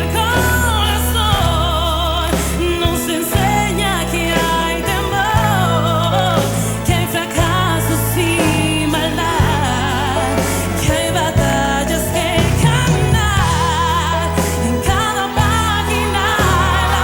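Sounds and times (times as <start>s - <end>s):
band accompaniment: 0.0s - 17.0s
woman singing a pop ballad: 0.0s - 17.0s.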